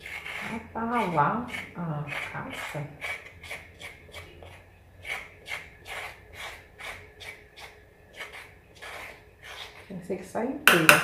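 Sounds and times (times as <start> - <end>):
peeler scraping carrot: 0.0 - 9.9.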